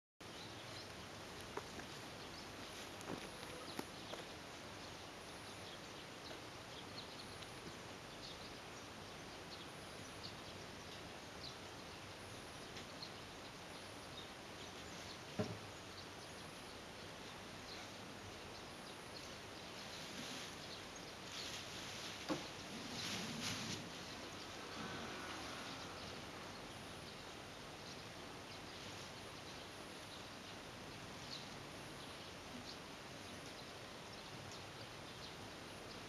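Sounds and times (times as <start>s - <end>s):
faint outdoor ambience: 0.2s - 36.0s.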